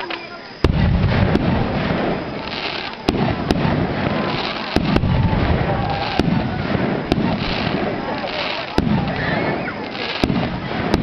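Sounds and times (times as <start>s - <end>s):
fireworks bangs: 0.0s - 11.0s
fireworks rumble and crackle: 0.0s - 11.0s.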